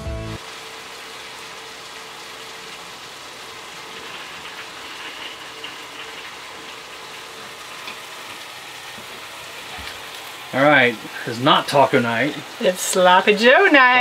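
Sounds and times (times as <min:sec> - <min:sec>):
meat sizzling in a frying pan: 0:00.4 - 0:14.0.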